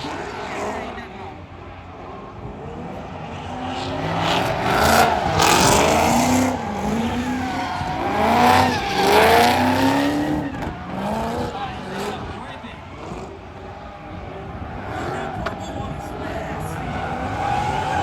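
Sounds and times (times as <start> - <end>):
car engine revving: 0.0 - 18.0
tires squealing: 0.0 - 18.0.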